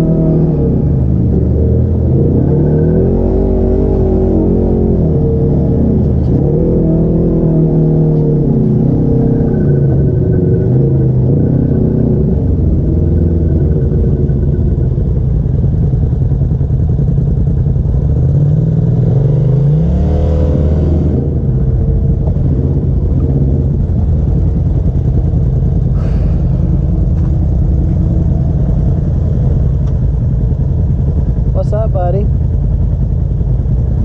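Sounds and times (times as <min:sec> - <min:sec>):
side-by-side engine running: 0:00.0 - 0:34.0.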